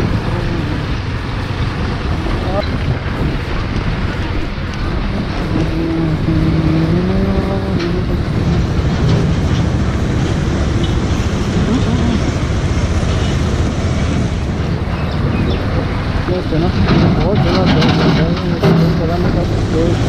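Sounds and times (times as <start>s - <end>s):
motorcycle engine and road noise: 0.0s - 20.0s.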